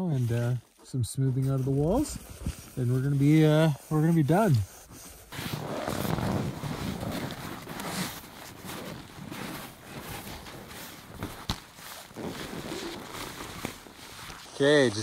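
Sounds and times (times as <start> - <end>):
snow and clothing rustling: 0.0 - 15.0.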